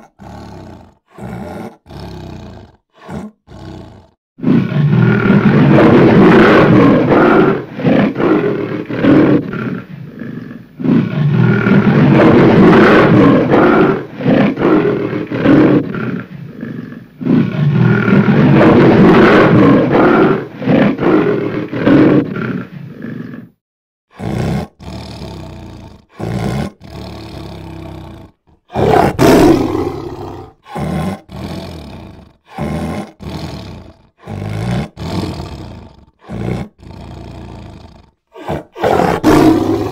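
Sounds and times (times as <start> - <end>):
big cats roaring: 0.0 - 39.9.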